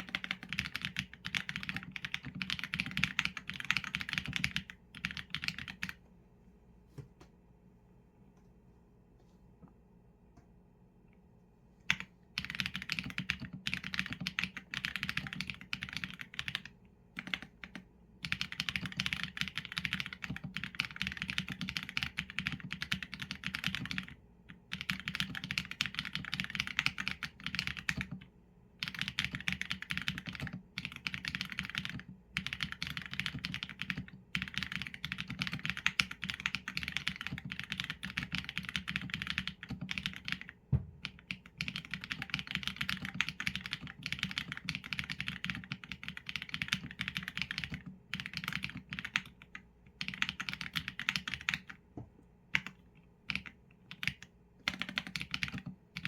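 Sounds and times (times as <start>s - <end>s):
fast mechanical keyboard typing: 0.0s - 6.0s, 11.9s - 51.8s, 52.5s - 56.0s.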